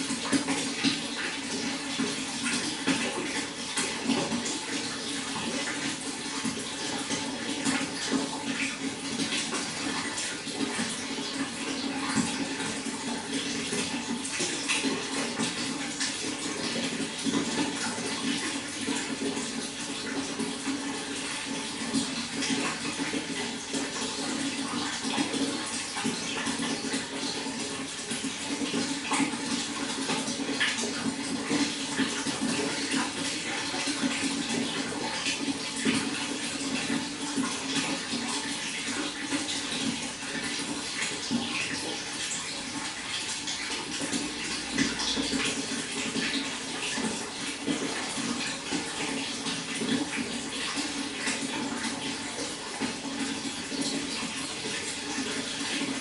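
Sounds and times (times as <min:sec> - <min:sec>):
running water pouring and splashing: 0:00.0 - 0:56.0.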